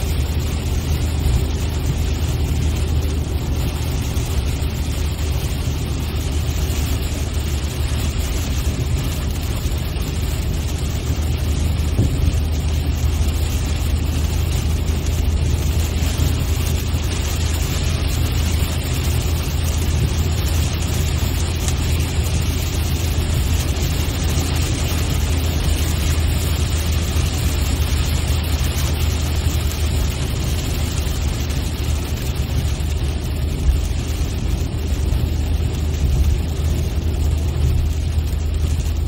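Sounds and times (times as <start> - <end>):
car engine and tyres droning: 0.0 - 39.0.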